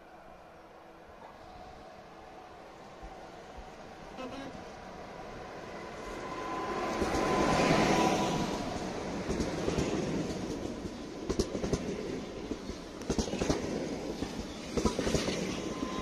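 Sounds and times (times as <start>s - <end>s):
electric train rolling past: 0.0s - 16.0s.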